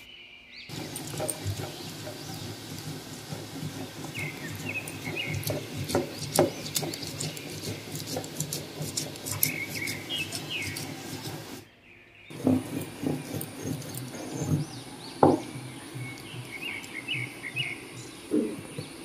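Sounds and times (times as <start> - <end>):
birds chirping: 0.0 - 19.0
stone grinding seeds: 0.7 - 11.6, 12.3 - 17.8.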